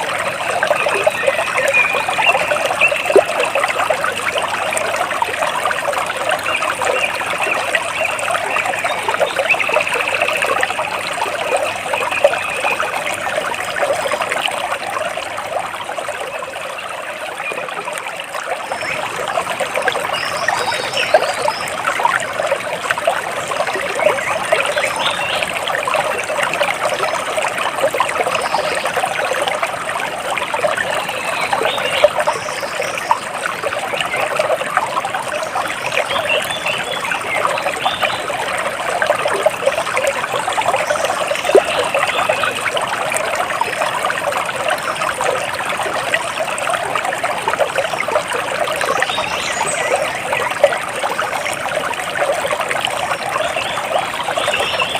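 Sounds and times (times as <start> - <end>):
water splashing and trickling: 0.0 - 54.9.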